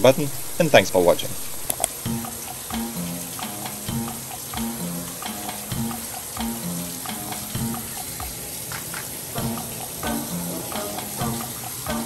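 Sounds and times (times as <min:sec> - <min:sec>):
shower water spraying: 0:01.3 - 0:12.0
background music with beat: 0:02.0 - 0:12.0.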